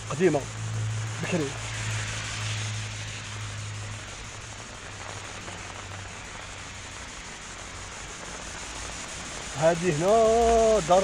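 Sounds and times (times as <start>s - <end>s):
rain on wet pavement: 0.0s - 11.0s.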